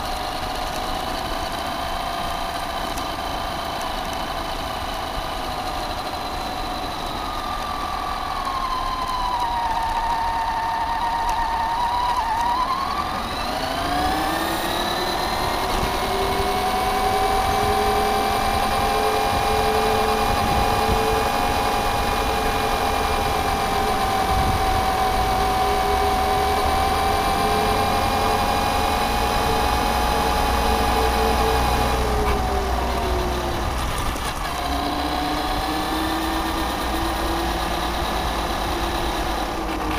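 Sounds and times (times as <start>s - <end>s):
toy car electric motor whining: 0.0s - 39.9s.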